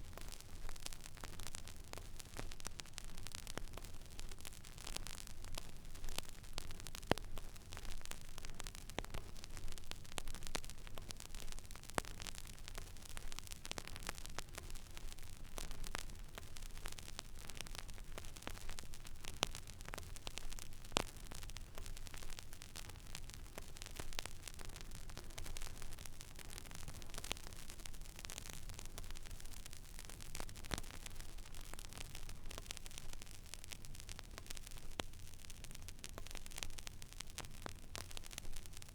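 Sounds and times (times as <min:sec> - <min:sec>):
vinyl record crackle: 0:00.0 - 0:38.9.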